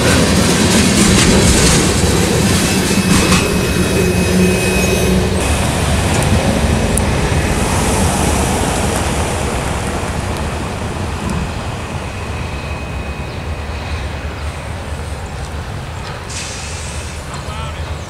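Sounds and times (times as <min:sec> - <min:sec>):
freight train wheels rumbling on track: 0:00.0 - 0:18.0.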